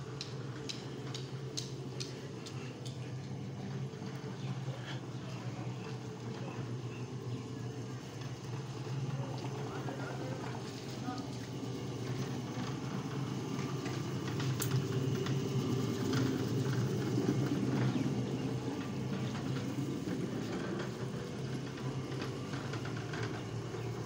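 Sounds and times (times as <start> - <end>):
floor polishing machine humming: 0.0 - 24.0.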